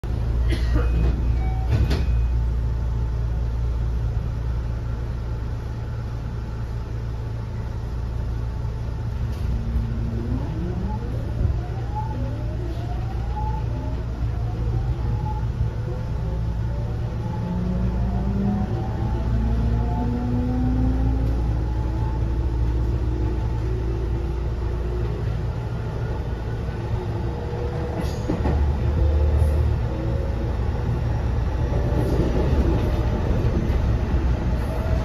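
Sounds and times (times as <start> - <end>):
low hum inside train car: 0.0 - 35.0.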